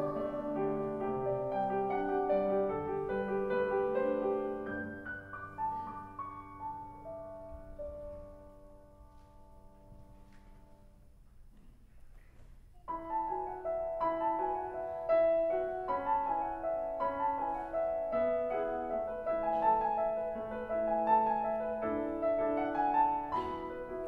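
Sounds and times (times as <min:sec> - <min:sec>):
piano playing: 0:00.0 - 0:11.1, 0:12.8 - 0:24.0.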